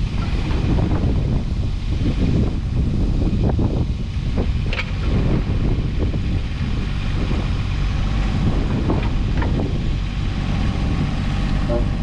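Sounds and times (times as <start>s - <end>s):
diesel excavator engine running: 0.0s - 12.0s
wind on microphone: 0.0s - 12.0s.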